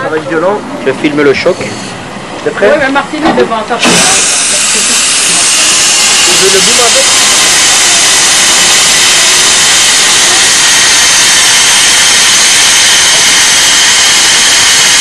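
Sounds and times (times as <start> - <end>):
steam locomotive hissing: 1.3 - 2.3, 3.8 - 15.0.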